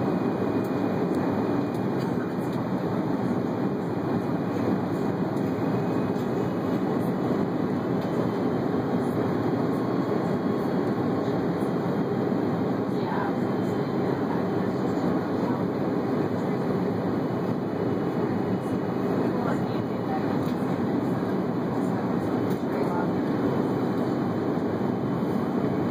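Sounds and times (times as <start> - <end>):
airliner cabin rumble: 0.0 - 25.9.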